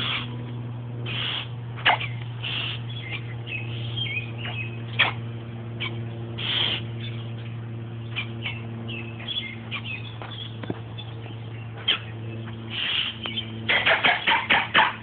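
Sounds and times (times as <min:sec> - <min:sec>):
bird chirping and squawking: 0:00.0 - 0:00.4, 0:01.1 - 0:15.0
bird harsh calls: 0:00.0 - 0:00.4, 0:01.0 - 0:15.0
low electrical hum: 0:00.0 - 0:15.0.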